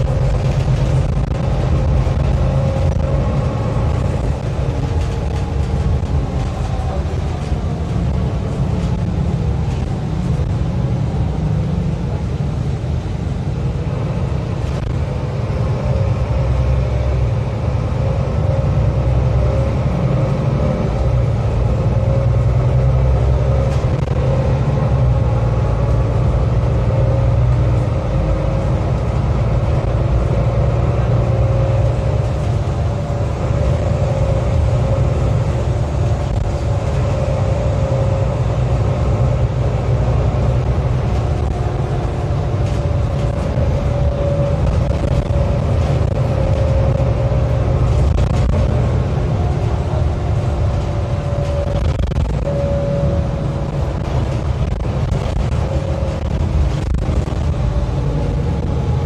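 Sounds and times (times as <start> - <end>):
bus engine and road rumble: 0.0 - 59.0
faint engine whine: 0.0 - 59.0.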